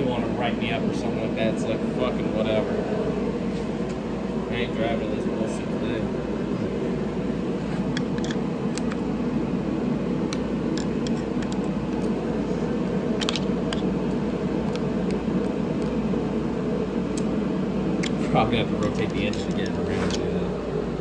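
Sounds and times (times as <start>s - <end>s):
steady machine drone: 0.0s - 21.0s.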